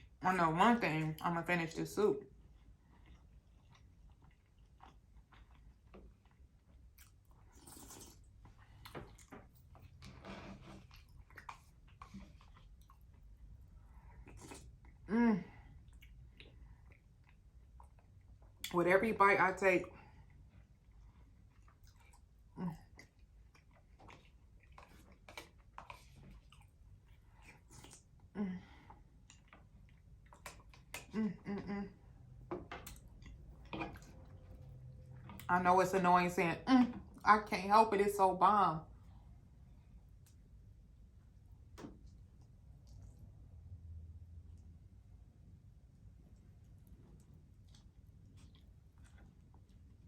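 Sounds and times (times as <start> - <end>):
chewing and mouth clicks: 2.2 - 10.1, 10.7 - 18.8, 19.8 - 31.2, 32.0 - 35.5, 40.0 - 43.7, 44.4 - 50.0.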